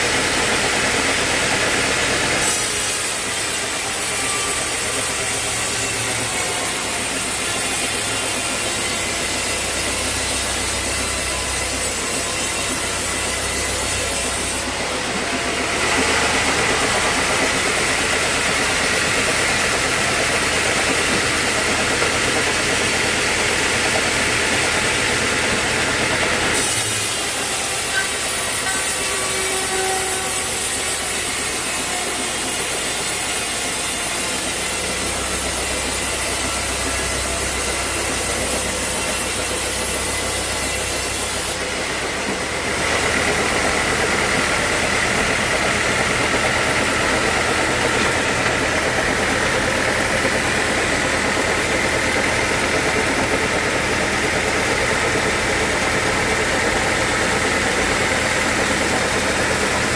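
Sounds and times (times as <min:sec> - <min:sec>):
sawmill saw cutting logs: 0:00.0 - 0:59.9.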